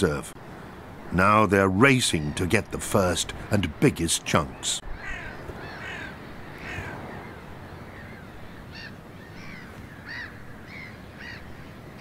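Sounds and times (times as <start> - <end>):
steady background noise: 0.0 - 12.0
birds calling harshly: 1.9 - 12.0.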